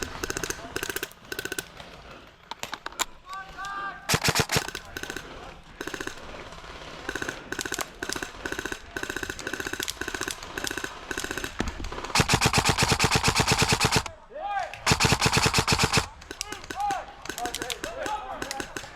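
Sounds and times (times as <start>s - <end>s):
airsoft guns firing bursts: 0.0s - 2.0s, 4.1s - 18.9s.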